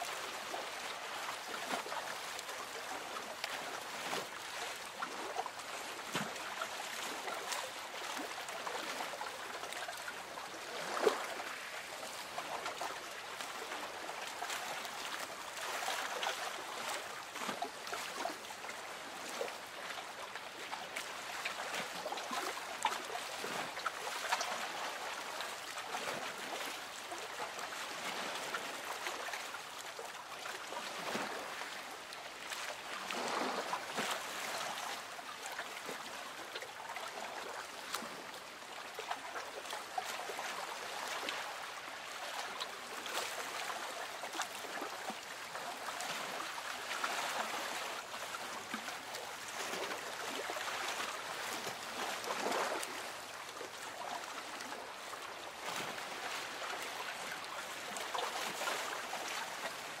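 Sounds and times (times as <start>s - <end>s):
water lapping against boat hull: 0.0s - 60.0s.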